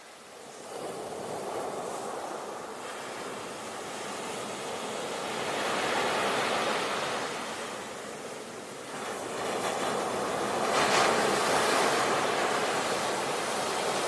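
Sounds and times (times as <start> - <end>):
sea waves washing on shore: 0.0 - 14.0.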